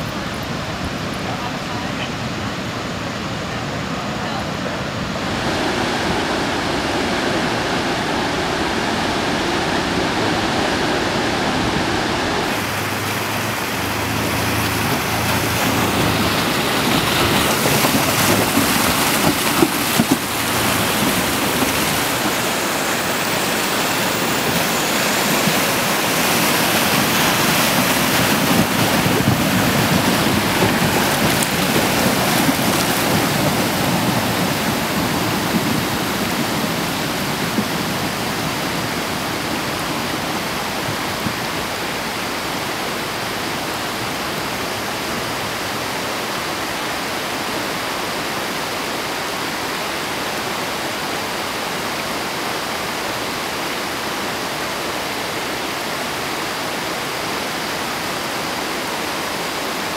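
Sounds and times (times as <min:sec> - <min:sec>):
rushing floodwater: 0:00.0 - 0:59.9
wheels splashing through water: 0:00.0 - 0:59.9.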